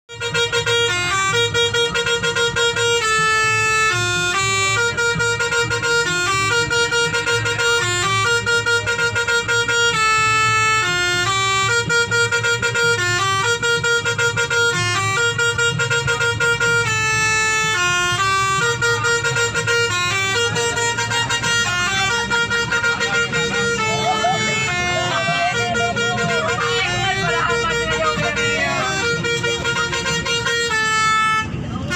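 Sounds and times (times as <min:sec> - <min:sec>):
musical bus horn tune: 0:00.0 - 0:31.9
low engine rumble: 0:00.1 - 0:31.9.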